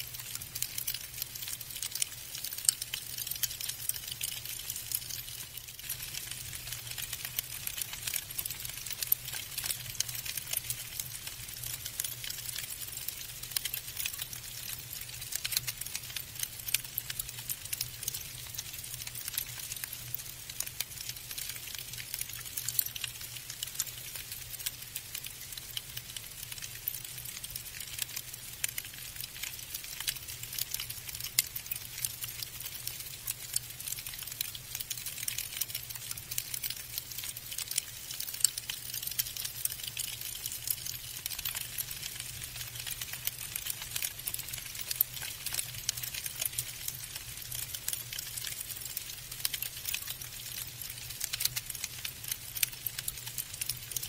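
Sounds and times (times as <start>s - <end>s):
snowflakes pattering: 0.2s - 54.0s.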